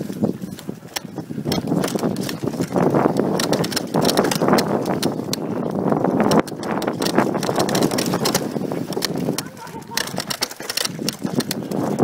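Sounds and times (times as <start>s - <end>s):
bike rattling: 0.0s - 12.0s
tyres rumbling over dirt: 0.0s - 12.0s.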